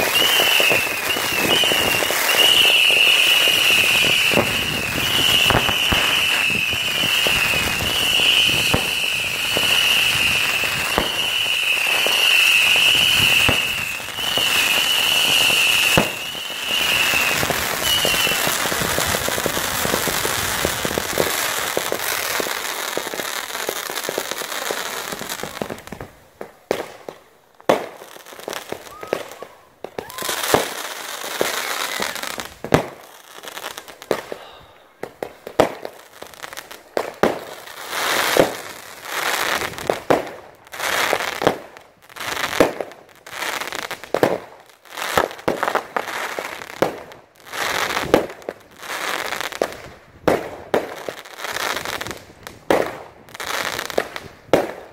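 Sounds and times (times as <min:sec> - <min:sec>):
fireworks crackling and bursting: 0:00.0 - 0:54.9.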